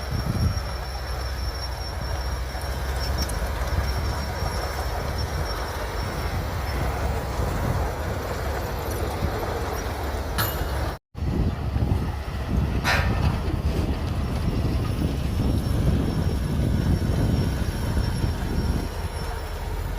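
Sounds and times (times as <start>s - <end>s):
bulldozer diesel engine rumble: 0.0s - 19.9s.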